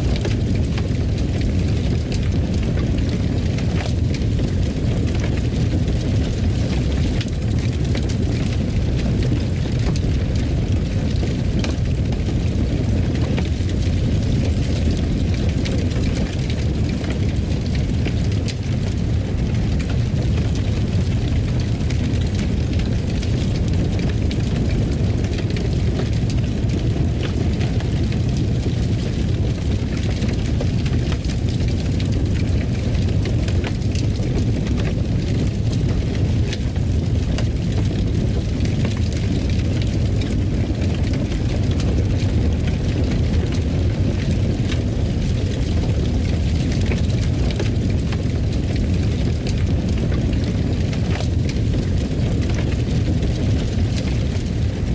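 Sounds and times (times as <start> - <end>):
fire burning with crackles: 0.0 - 54.9.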